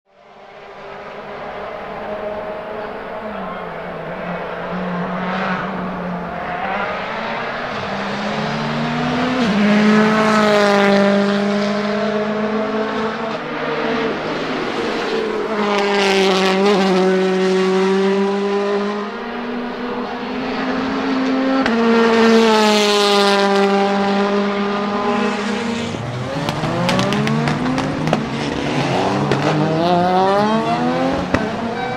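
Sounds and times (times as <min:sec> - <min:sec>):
rally car engines at speed: 0:00.1 - 0:31.9.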